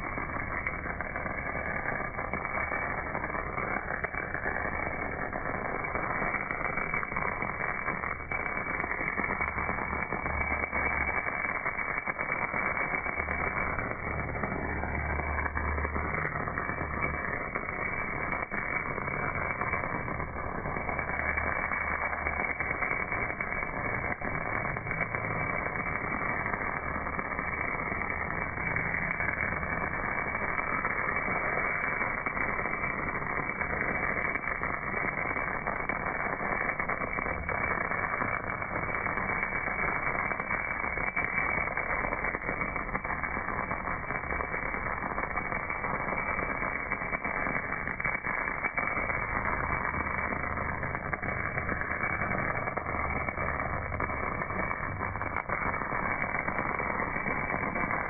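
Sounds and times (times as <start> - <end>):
muffled welding arc crackling: 0.0 - 58.0.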